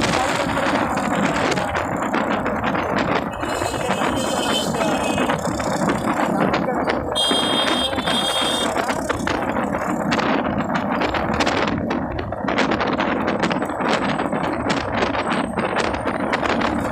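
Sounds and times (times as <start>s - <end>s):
wind and road noise: 0.0s - 16.9s.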